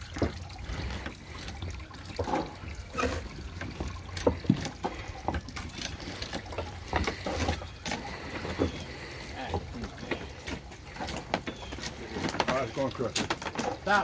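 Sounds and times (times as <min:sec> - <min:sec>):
juice trickling into plastic bucket: 0:00.0 - 0:14.0.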